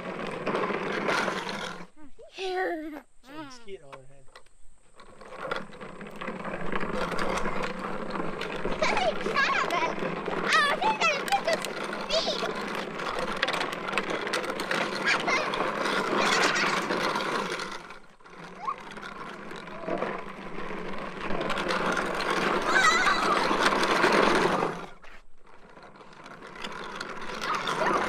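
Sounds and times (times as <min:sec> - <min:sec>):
plastic wheels rattling on gravel: 0:00.0 - 0:02.7, 0:03.3 - 0:28.0.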